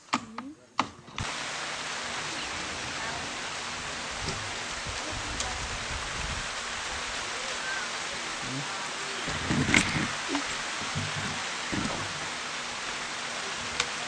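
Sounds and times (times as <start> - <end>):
rain falling: 1.2 - 14.0.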